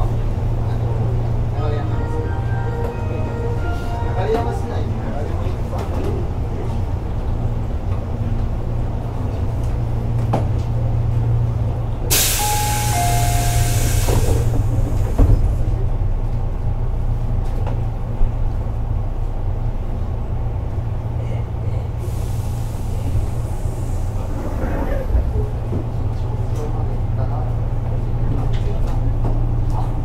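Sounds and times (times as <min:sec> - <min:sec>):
train low rumble: 0:00.0 - 0:30.0.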